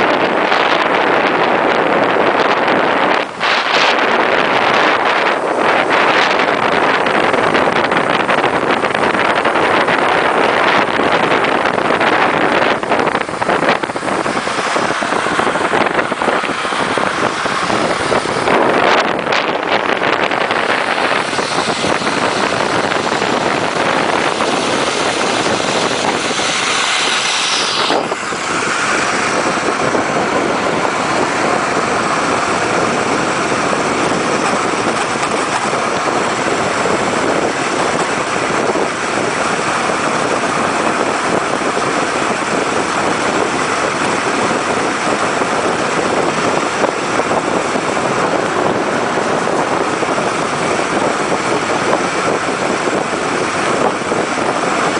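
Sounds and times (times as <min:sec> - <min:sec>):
ice boat rushing over ice: 0:00.0 - 0:54.9.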